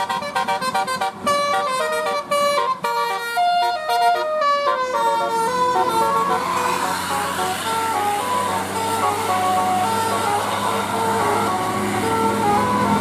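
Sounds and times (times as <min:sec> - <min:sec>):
musical bus air horn: 0:00.0 - 0:13.0.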